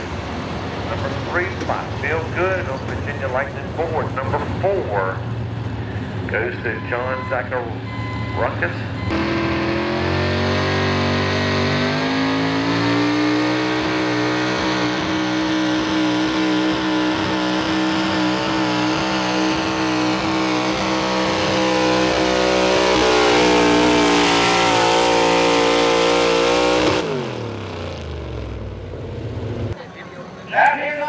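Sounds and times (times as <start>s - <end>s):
truck engine at full throttle: 0.0s - 30.3s.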